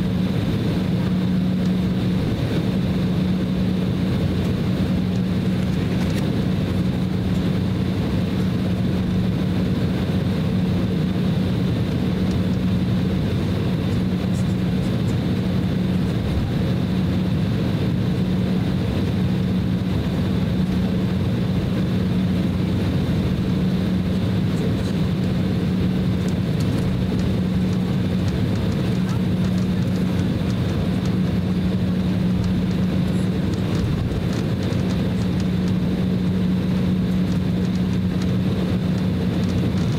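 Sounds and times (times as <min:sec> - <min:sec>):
airliner cabin drone: 0:00.0 - 0:39.9
faint high whine: 0:00.0 - 0:39.9.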